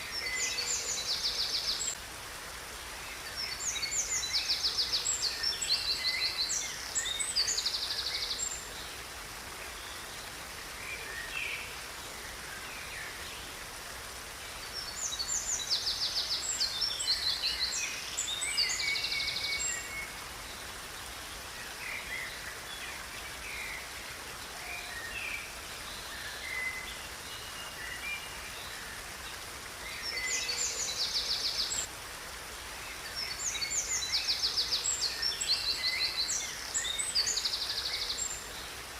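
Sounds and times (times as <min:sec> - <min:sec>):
songbirds trilling and chirping: 0:00.0 - 0:02.0, 0:02.9 - 0:09.0, 0:14.4 - 0:31.9, 0:32.9 - 0:38.9
steady background hiss: 0:00.0 - 0:38.9.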